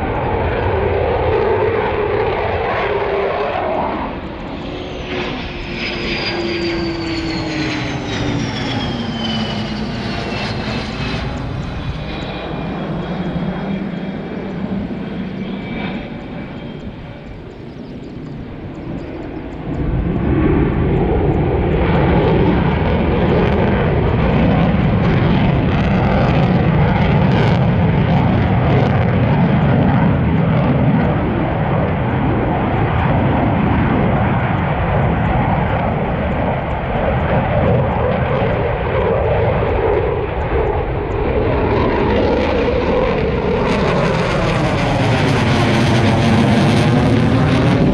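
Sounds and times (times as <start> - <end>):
aircraft engine: 0.0 - 47.9.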